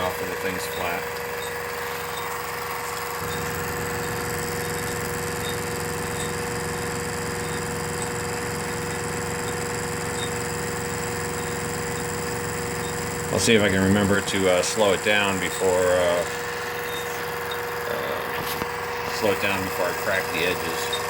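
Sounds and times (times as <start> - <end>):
low rumble of cutting: 0.0 - 21.0
mill motor whine: 0.0 - 21.0.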